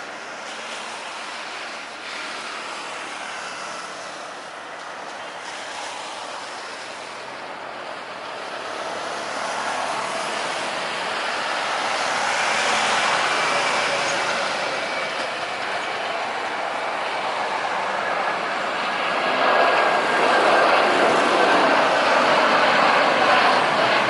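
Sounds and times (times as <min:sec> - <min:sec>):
faint high engine whine: 0:00.0 - 0:24.0
jet airliner engines passing: 0:00.0 - 0:24.0.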